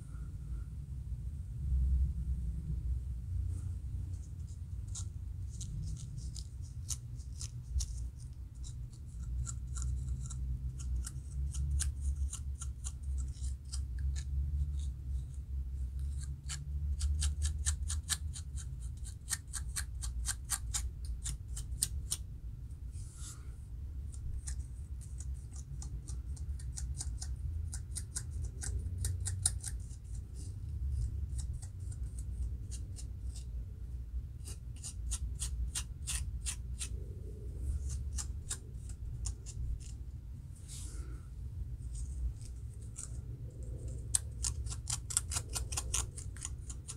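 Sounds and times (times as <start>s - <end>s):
low steady rumble: 0.0s - 46.9s
comb scratching scalp: 4.1s - 22.2s, 24.1s - 33.6s, 34.4s - 37.0s, 37.6s - 40.0s, 41.8s - 46.9s.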